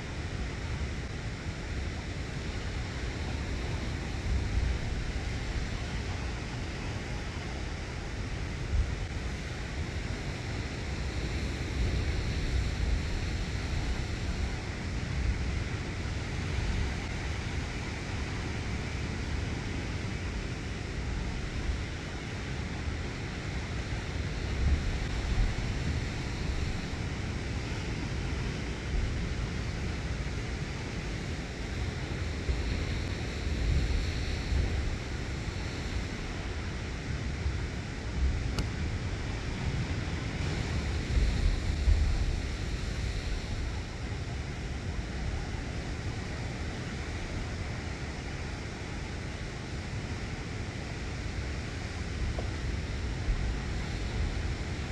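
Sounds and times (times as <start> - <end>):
wind buffeting microphone: 0.0 - 48.7.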